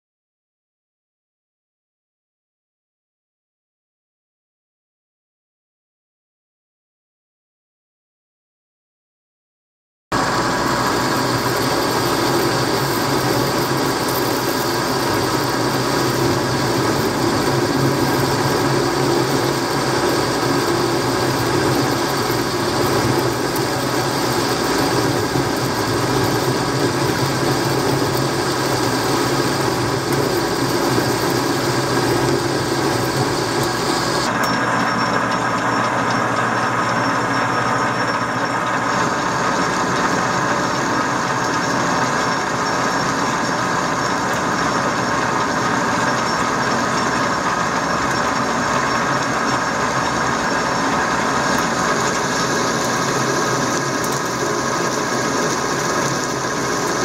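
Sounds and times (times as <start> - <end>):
metal lathe cutting steel: 10.2 - 57.0.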